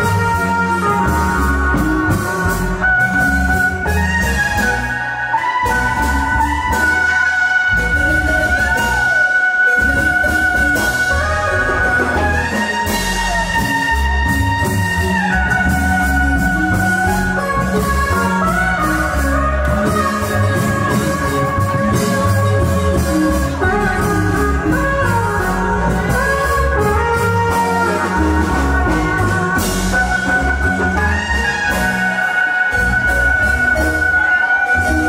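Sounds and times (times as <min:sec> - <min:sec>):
marimba band playing dance music: 0:00.0 - 0:35.0.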